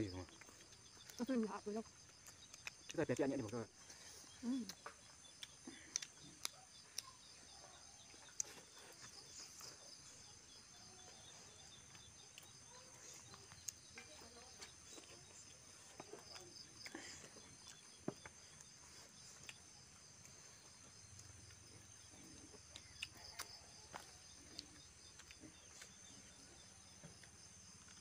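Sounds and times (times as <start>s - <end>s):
insects chirping: 0.0s - 28.0s
chewing and lip smacks: 0.3s - 1.2s, 1.9s - 28.0s.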